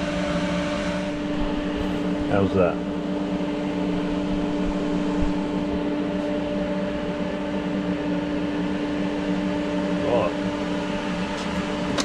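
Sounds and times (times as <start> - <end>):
cooling fan hiss: 0.0 - 12.0
welder humming: 0.0 - 12.0.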